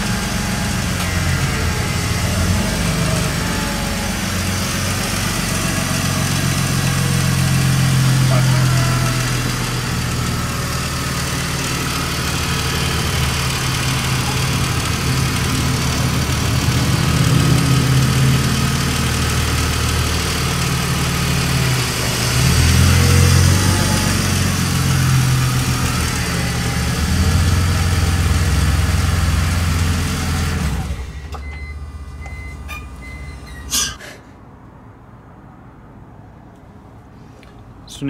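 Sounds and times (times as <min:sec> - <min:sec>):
car engine idling: 0:00.0 - 0:33.8.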